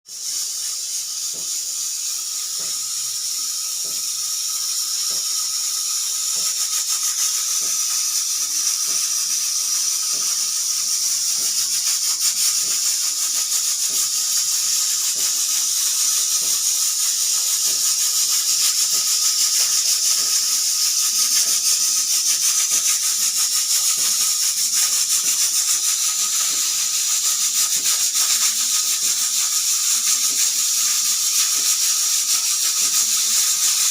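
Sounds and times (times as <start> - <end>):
pressure cooker steam hissing: 0.0 - 33.9.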